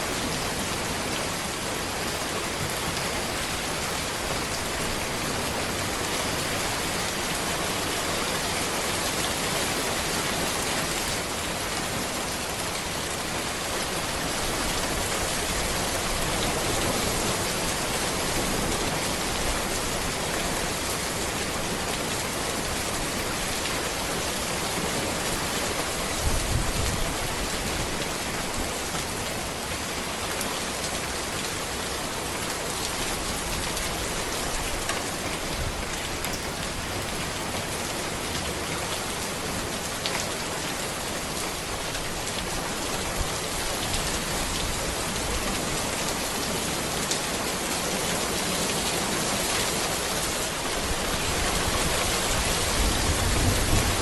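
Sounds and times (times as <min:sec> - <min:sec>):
rain falling on road and trees: 0:00.0 - 0:54.0.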